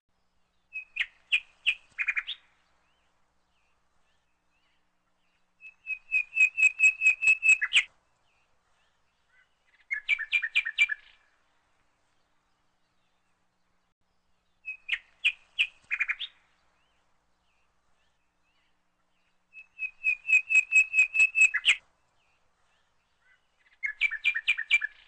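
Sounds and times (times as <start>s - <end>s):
bird chirping: 0.2s - 25.0s.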